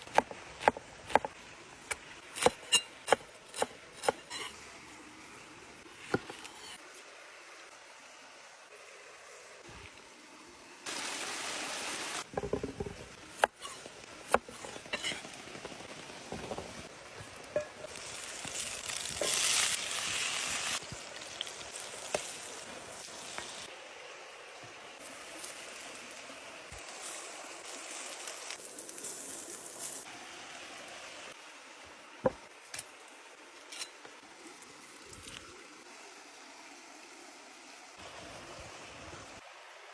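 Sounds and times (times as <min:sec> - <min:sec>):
food sizzling: 0:00.0 - 0:39.4.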